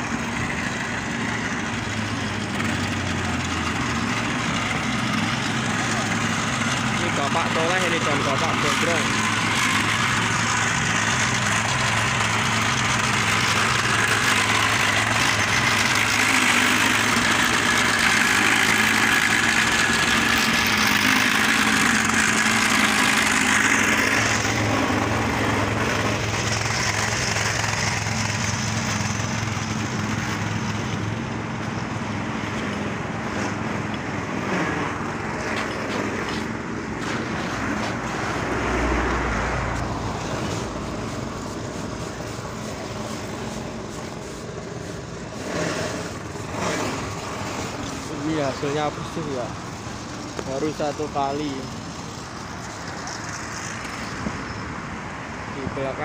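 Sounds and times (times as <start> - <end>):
machine grinding paint off road: 0.0 - 56.0
small petrol engine running: 0.0 - 56.0.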